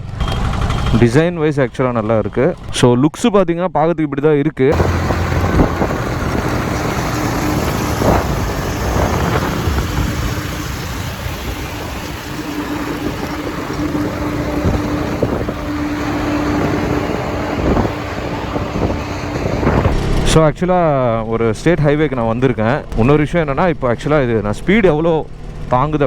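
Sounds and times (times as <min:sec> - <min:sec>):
motorcycle engine hum: 0:00.0 - 0:03.0, 0:04.7 - 0:26.0
road and wind noise: 0:00.0 - 0:03.0, 0:04.7 - 0:26.0.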